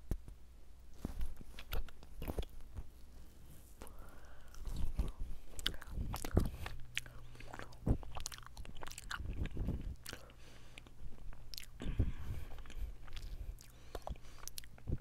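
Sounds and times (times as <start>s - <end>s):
chewing: 1.4s - 2.9s, 3.8s - 15.0s.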